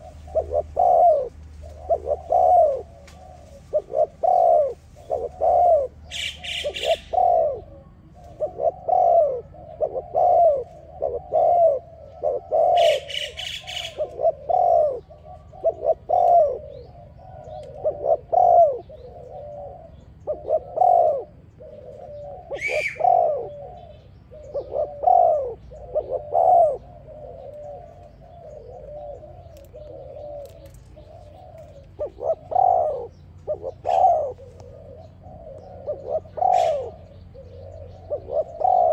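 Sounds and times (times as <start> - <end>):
bird chirping: 0.0 - 38.9
dove cooing: 0.0 - 38.9.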